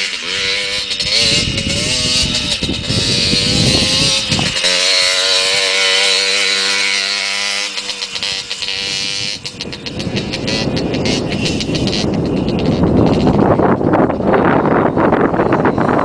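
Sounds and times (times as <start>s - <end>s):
dirt bike engine revving: 0.0s - 16.0s
wind buffeting microphone: 0.3s - 16.0s.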